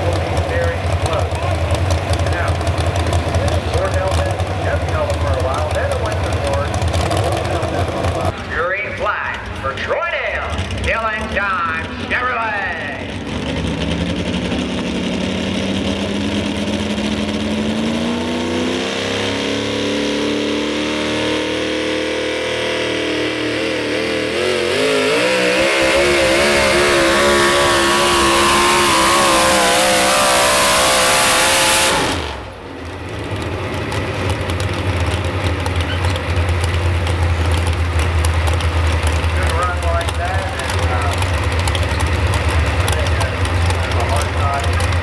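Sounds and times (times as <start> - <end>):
truck engine at full throttle: 0.0 - 45.0.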